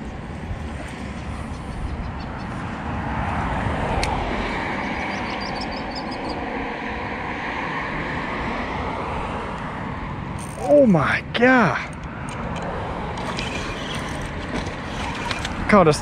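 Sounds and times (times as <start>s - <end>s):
tyre noise of road traffic: 0.0s - 16.0s.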